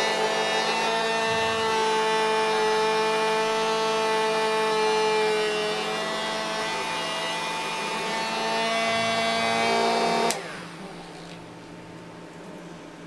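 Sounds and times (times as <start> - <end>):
small motor and fan whining: 0.0 - 13.0.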